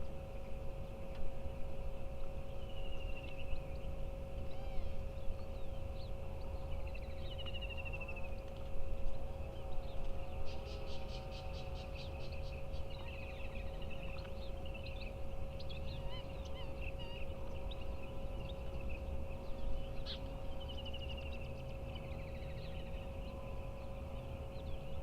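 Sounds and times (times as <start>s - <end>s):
steady hum: 0.0s - 25.0s
wild birds calling: 2.5s - 25.0s.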